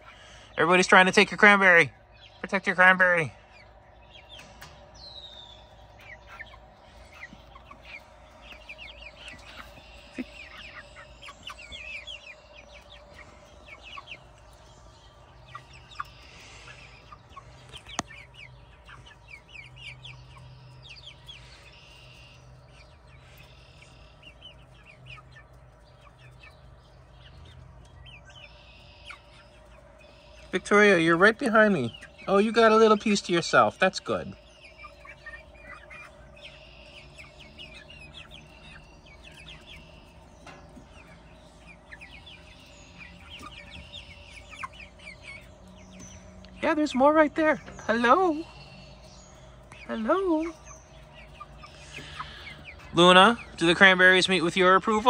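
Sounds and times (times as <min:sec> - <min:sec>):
chickens clucking and chirping: 0:00.0 - 0:55.0.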